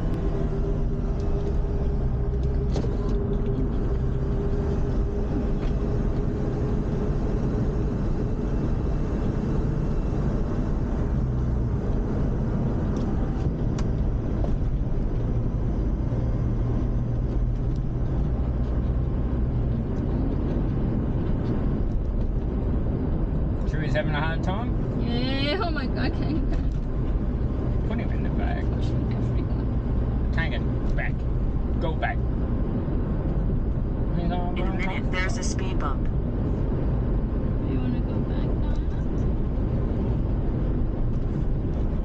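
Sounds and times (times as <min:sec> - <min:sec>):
car engine hum: 0:00.0 - 0:42.0.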